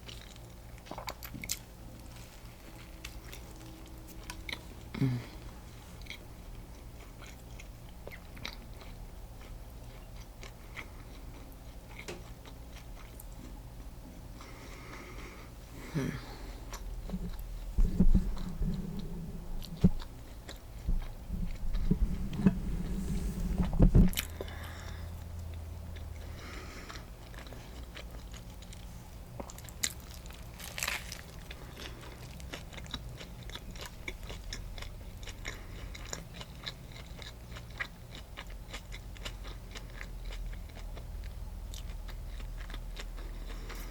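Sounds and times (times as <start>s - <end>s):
sandwich chewing and crunching: 0.0s - 43.9s.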